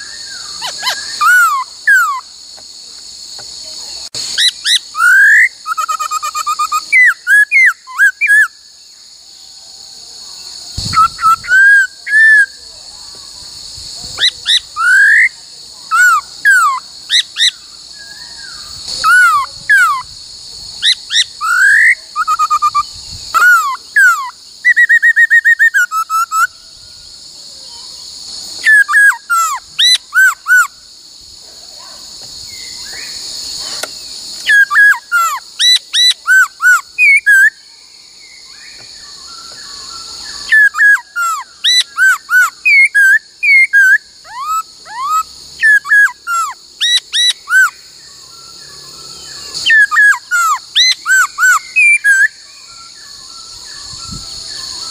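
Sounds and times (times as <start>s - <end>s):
bird singing whistled notes: 0.0s - 2.3s, 3.8s - 30.8s, 32.4s - 54.9s
steady high hiss: 0.0s - 54.9s.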